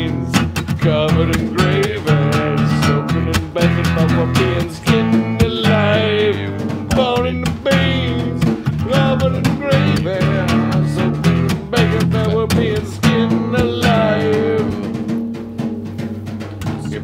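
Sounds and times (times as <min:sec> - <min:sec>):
person singing: 0:00.0 - 0:15.1, 0:16.7 - 0:17.0
band music with guitar and drums: 0:00.0 - 0:17.0.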